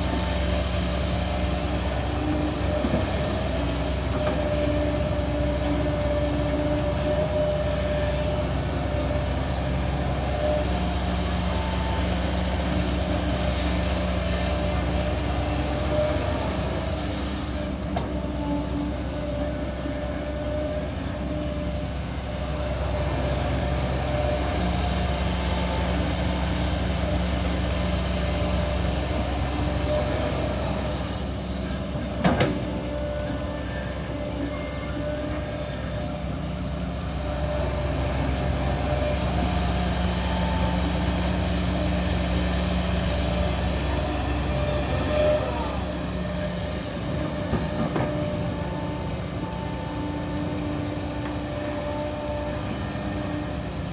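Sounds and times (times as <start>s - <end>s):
excavator engine and hydraulics: 0.0s - 53.9s.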